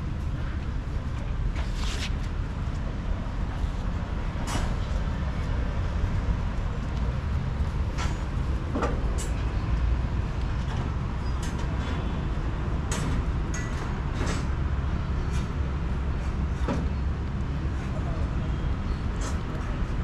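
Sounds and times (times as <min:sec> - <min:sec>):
low street rumble: 0:00.0 - 0:20.0.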